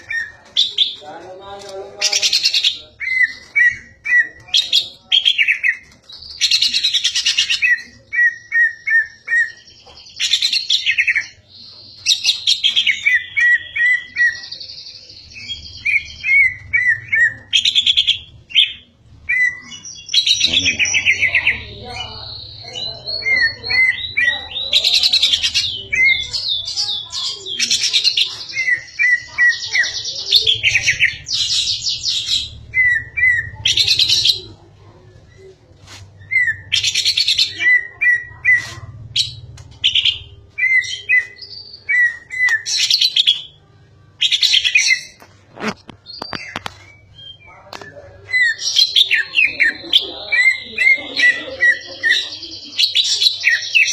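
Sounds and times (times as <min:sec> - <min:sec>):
songbird chirping and trilling: 0:00.0 - 0:53.9.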